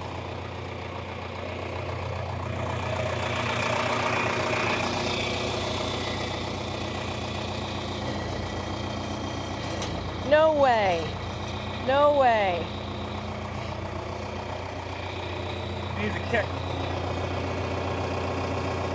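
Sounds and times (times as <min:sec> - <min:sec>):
tractor engine idling: 0:00.0 - 0:18.9.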